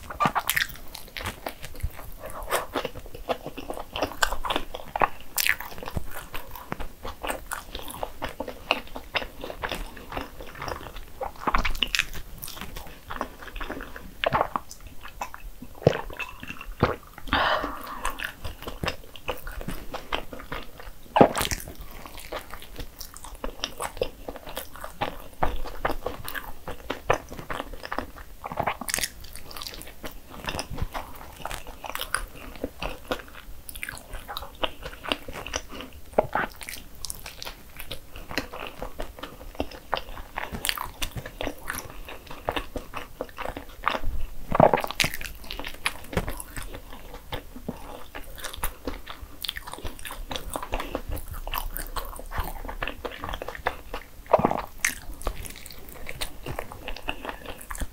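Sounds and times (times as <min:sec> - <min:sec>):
chewing and biting sandwich: 0:00.0 - 0:57.9.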